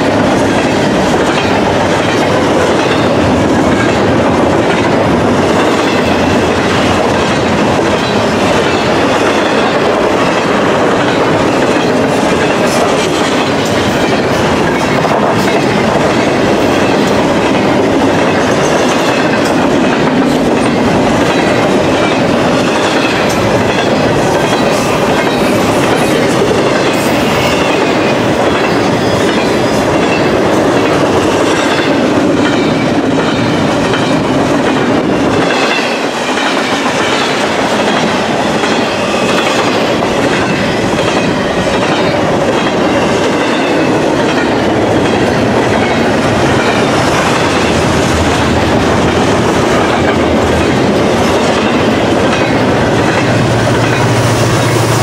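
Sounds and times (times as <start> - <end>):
clicks of wheels on rails: 0.0 - 54.0
freight train rumbling past: 0.0 - 55.0.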